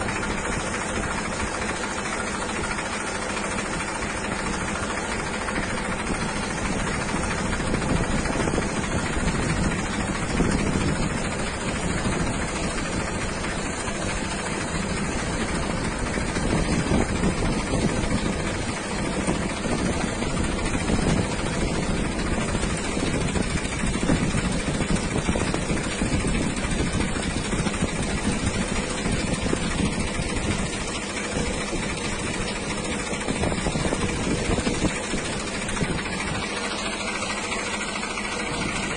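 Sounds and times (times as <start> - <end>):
wind rumble on microphone: 0.0 - 38.9
wind blowing hard in gusts: 4.6 - 36.6.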